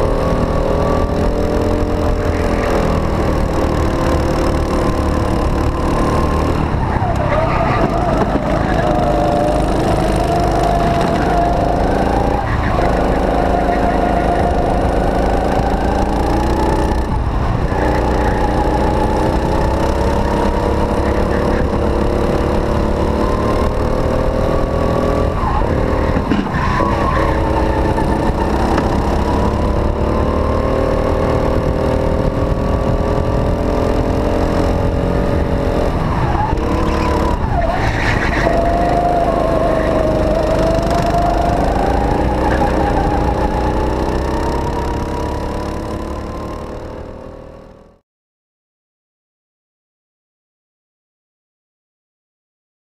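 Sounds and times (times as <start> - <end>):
go-kart engine revving: 0.0 - 48.0.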